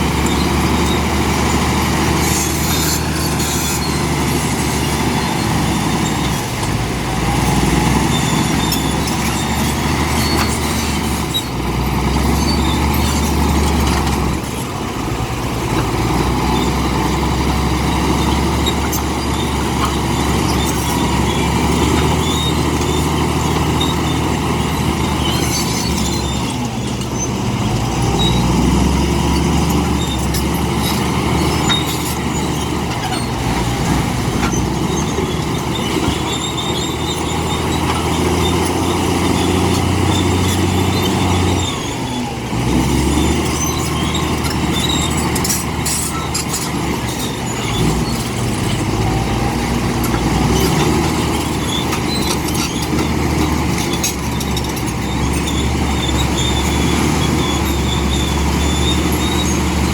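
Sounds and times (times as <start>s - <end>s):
bulldozer diesel engine: 0.0s - 59.9s
clanks and rattles of track and stone: 0.0s - 59.9s.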